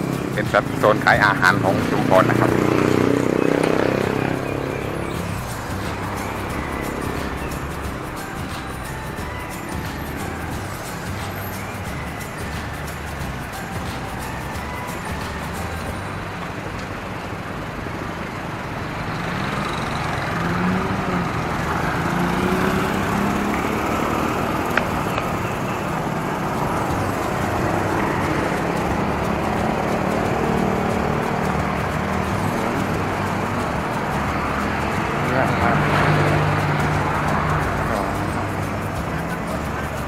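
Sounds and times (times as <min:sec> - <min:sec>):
vehicles passing on street: 0:00.0 - 0:40.0.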